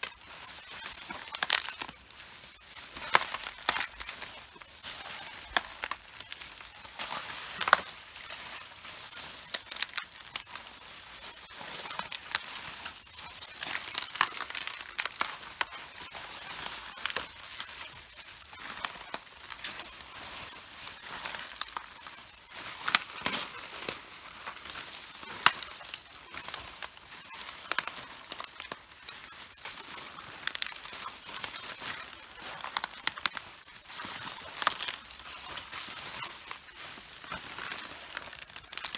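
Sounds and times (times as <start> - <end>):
cabbage leaves crunching underfoot: 0.0 - 38.9.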